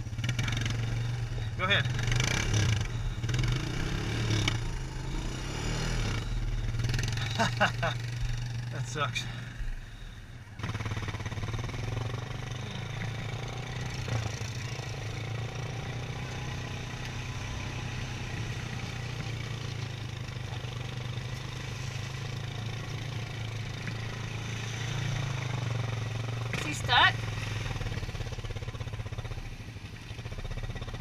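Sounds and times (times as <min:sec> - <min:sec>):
atv engine droning: 0:00.0 - 0:31.0.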